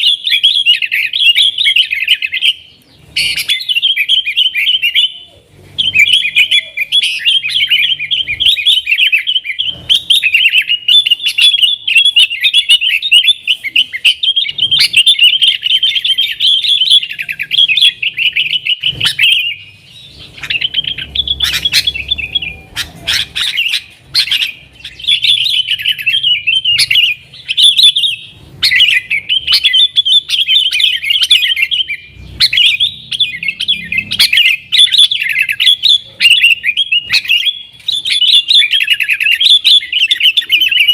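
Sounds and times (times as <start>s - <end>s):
bird singing chattering song: 0.0s - 40.9s.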